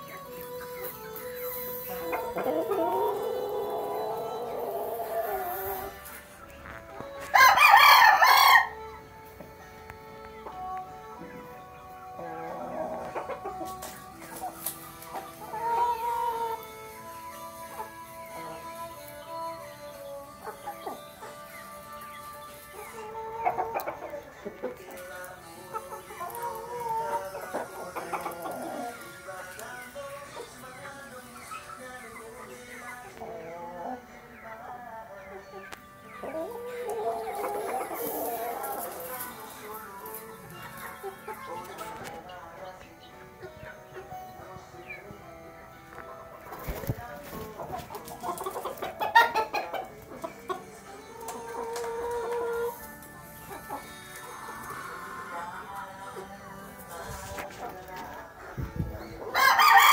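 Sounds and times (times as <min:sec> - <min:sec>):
background music: 0:00.0 - 0:59.9
chickens clucking: 0:00.0 - 0:59.9.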